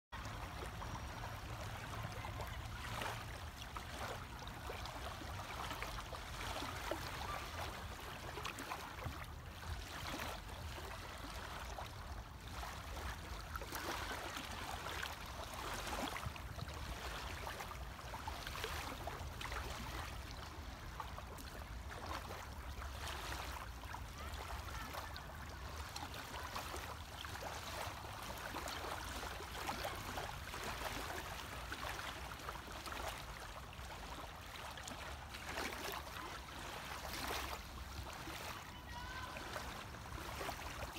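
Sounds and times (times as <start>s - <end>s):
waves lapping at shore: 0.2s - 40.9s.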